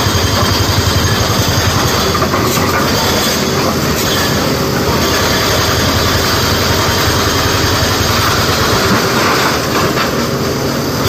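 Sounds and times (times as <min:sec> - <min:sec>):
excavator diesel engine under load: 0:00.0 - 0:11.0.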